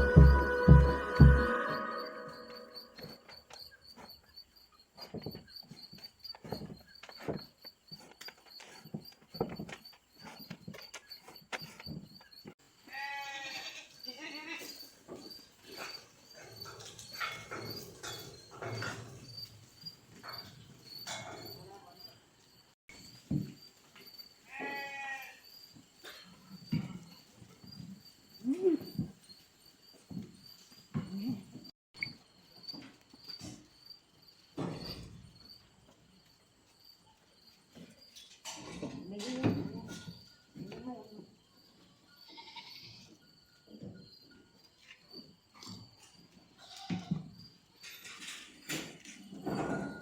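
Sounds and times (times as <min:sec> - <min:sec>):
insect chirping: 0:00.0 - 0:46.6.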